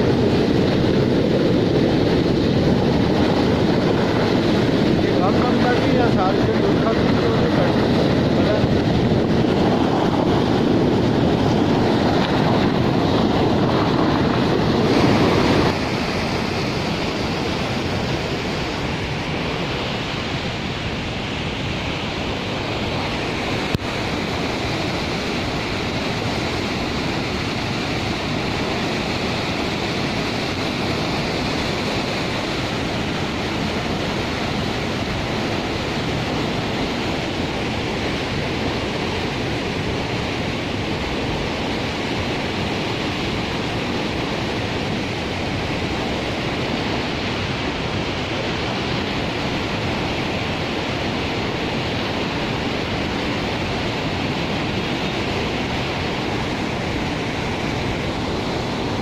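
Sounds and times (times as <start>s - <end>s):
water rushing over dam spillway: 0.0s - 59.0s.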